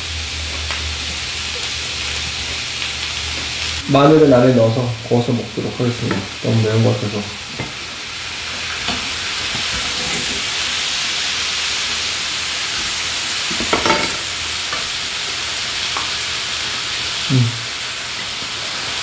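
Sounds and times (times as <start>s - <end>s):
meat sizzling on a grill pan: 0.0s - 19.0s.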